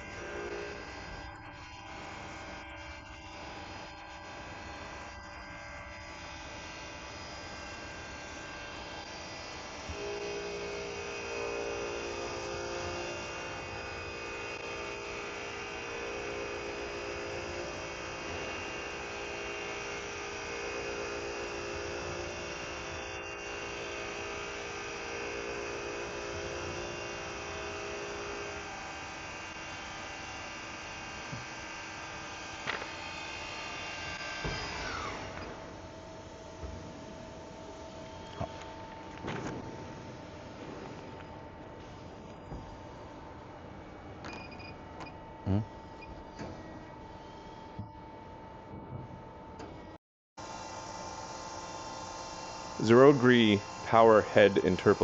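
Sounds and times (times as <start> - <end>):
lathe machine hum and whine: 0.0 - 55.0
loud motor whine: 0.0 - 55.0.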